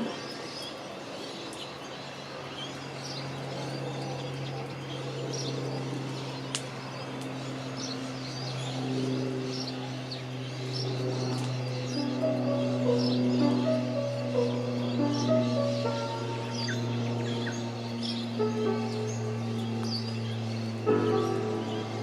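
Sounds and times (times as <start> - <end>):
small birds chirping: 0.0 - 22.0
steady low hum: 1.8 - 22.0.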